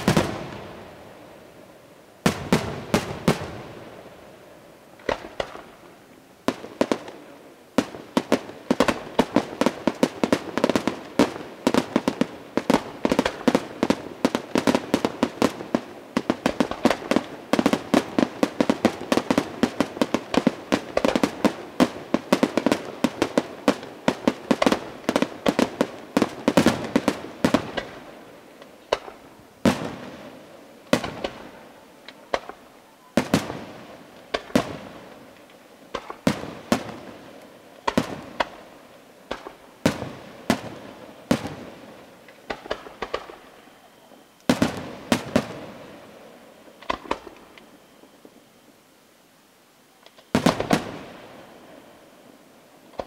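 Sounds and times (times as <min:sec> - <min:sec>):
fireworks bursting: 0:00.0 - 0:48.9, 0:49.9 - 0:53.0.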